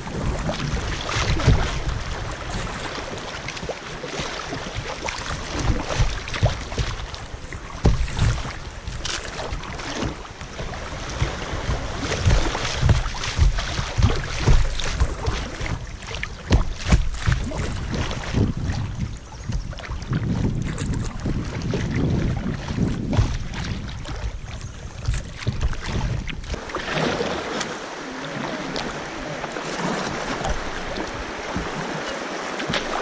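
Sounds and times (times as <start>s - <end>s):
wind buffeting microphone: 0.0s - 26.6s
water splashing against a kayak: 0.0s - 33.0s.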